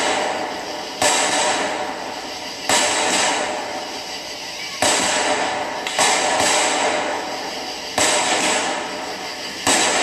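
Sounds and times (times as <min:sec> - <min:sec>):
fireworks booming with echo: 0:00.0 - 0:10.0.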